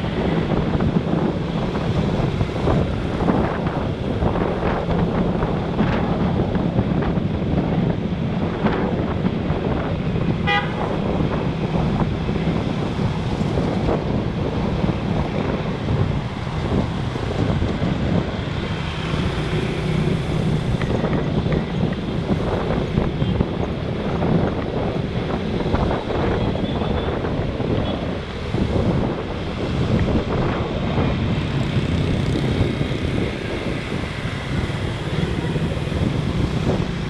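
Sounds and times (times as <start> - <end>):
motorbike engine hum: 0.0 - 37.0
road traffic: 0.0 - 37.0
wind buffeting microphone: 0.0 - 37.0.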